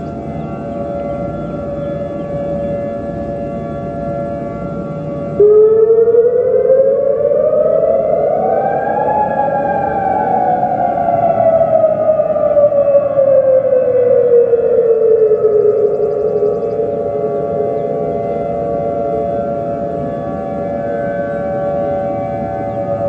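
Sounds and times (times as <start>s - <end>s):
air raid siren wailing: 0.0s - 23.0s.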